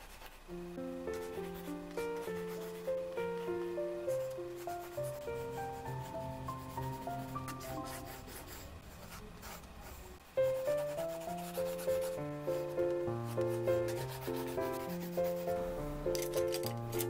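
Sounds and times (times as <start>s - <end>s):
pencil scratching on paper: 0.0s - 0.4s, 1.1s - 3.4s, 4.0s - 15.8s
piano music: 0.4s - 8.8s, 10.3s - 17.0s.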